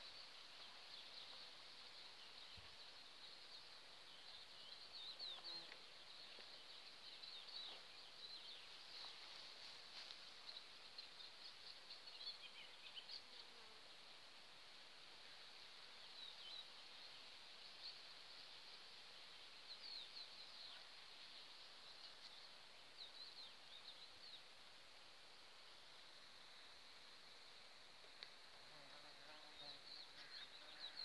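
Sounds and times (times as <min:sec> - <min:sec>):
insect buzz: 0:00.0 - 0:31.0.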